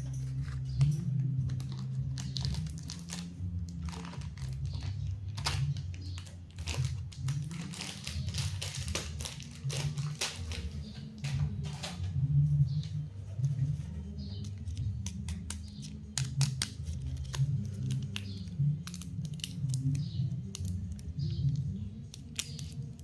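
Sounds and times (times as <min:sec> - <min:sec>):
plastic wrappers crinkling: 0:00.0 - 0:12.1, 0:13.4 - 0:23.0.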